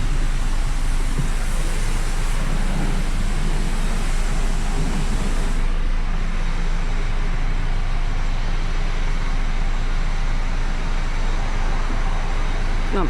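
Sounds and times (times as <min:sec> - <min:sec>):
machinery rumble and hiss: 0:00.0 - 0:13.0.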